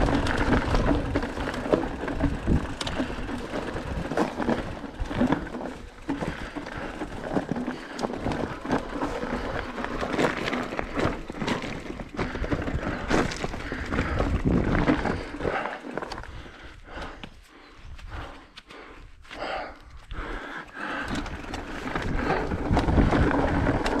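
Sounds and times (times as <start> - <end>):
bike tyres crunching over stones: 0.0 - 18.3, 20.2 - 24.0
bike rattling: 0.0 - 18.5, 19.4 - 24.0.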